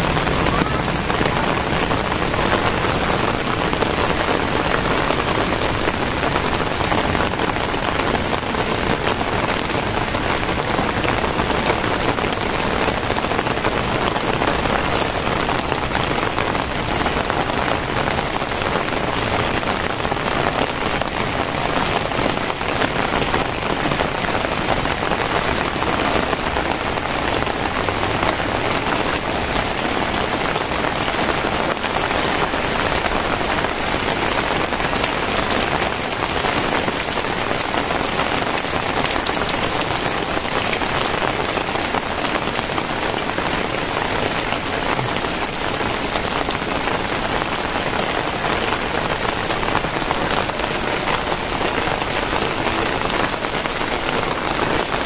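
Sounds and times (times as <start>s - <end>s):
very heavy rain: 0.0s - 55.0s.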